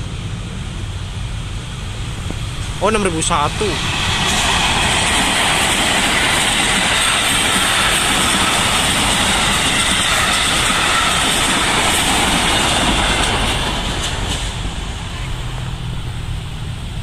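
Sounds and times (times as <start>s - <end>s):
train wheels rushing on rails: 0.0s - 17.0s
wheels clacking over rail joints: 2.0s - 16.2s.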